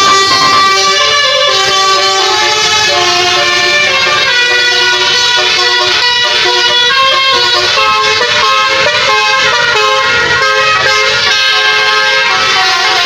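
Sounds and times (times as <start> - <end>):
musical bus horn tune: 0.0 - 13.0.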